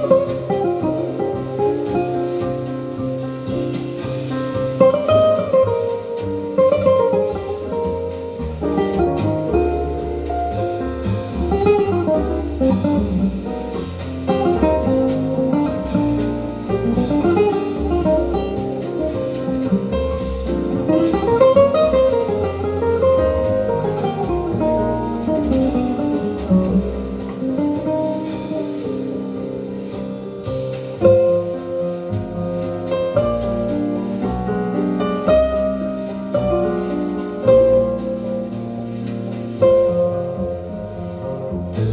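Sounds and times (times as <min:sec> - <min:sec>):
jazz guitar solo: 0:00.0 - 0:41.9
jazz over loudspeakers: 0:00.0 - 0:41.9.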